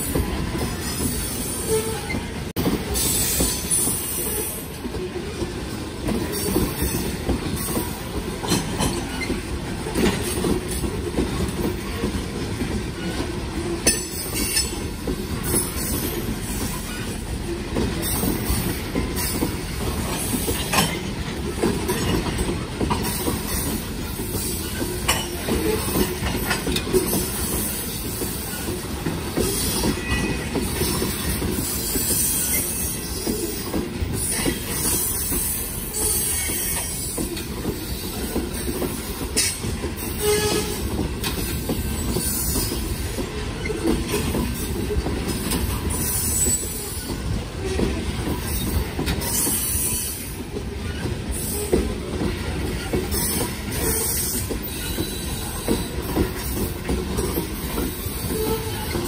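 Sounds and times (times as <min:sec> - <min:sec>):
train cars clanking: 0:00.0 - 0:59.0
train wheels rumbling on rail: 0:00.0 - 0:59.0.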